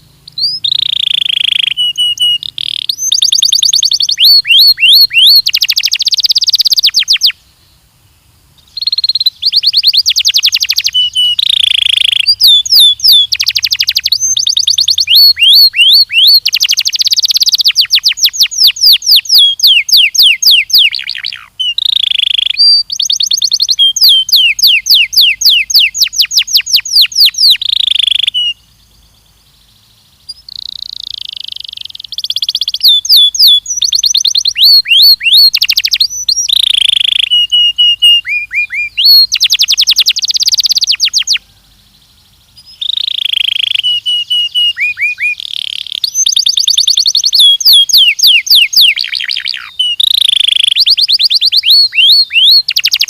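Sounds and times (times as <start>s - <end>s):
canary singing trills: 0.0s - 7.8s, 8.5s - 53.0s.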